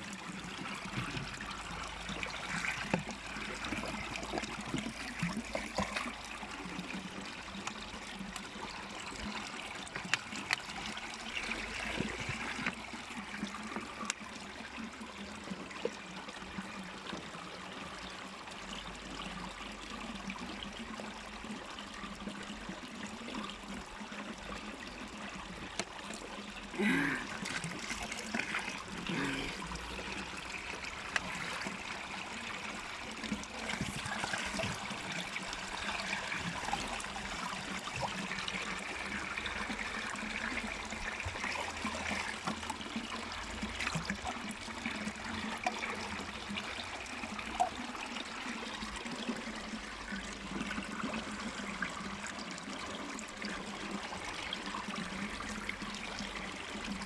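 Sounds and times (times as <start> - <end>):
water trickling in a bottle: 0.0 - 57.0.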